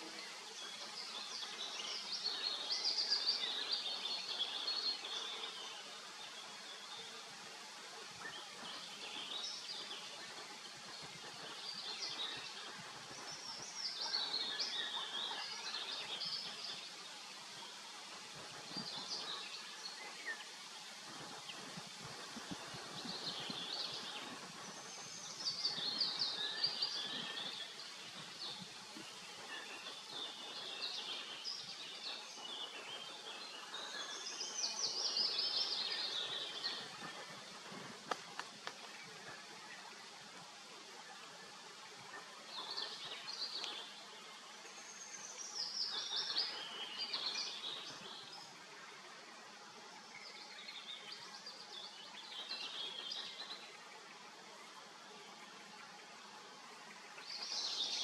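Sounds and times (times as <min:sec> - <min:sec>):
songbirds twittering: 0:00.0 - 0:58.0.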